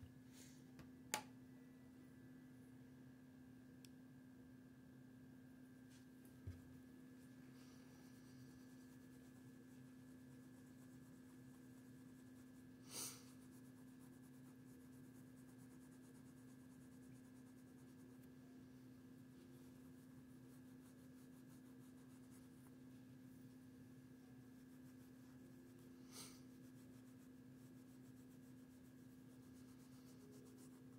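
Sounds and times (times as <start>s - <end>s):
steady electrical hum: 0.0s - 30.9s
faint handling rub: 5.9s - 30.9s.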